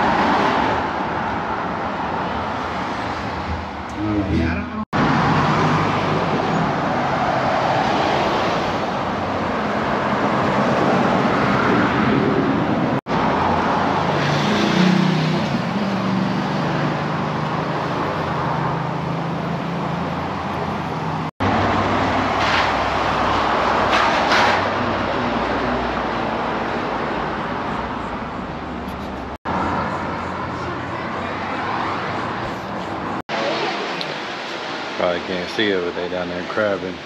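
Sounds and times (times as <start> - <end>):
car hum and road rush: 0.0 - 37.0.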